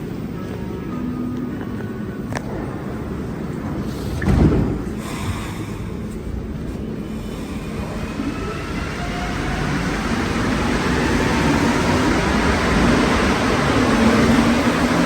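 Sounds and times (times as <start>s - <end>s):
train rumbling through station: 0.0s - 15.0s.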